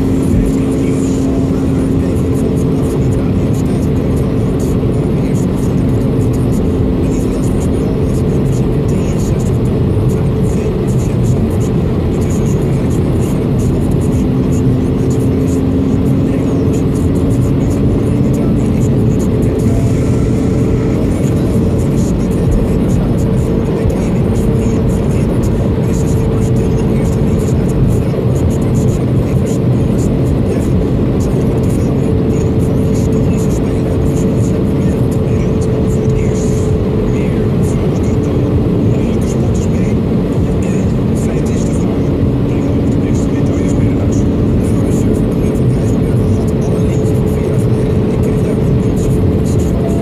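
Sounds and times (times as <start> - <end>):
car engine hum: 0.0 - 50.0
music playing: 0.0 - 50.0.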